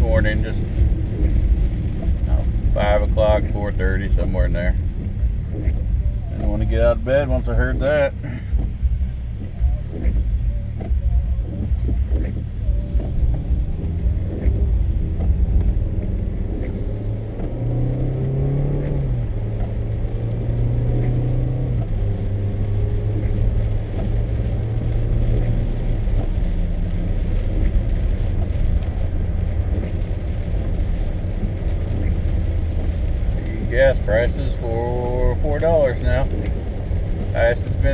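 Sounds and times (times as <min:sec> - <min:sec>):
car engine rumble inside cabin: 0:00.0 - 0:37.9
tyres on wet road: 0:00.0 - 0:37.9.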